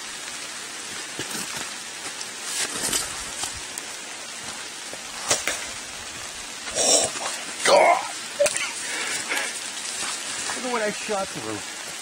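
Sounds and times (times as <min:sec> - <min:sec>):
rain pattering on leaves: 0:00.0 - 0:12.0.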